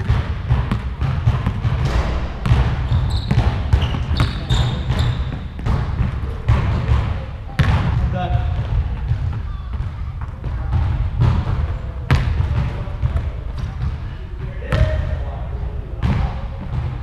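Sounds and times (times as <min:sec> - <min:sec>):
basketball bouncing on wood floor: 0:00.0 - 0:14.0.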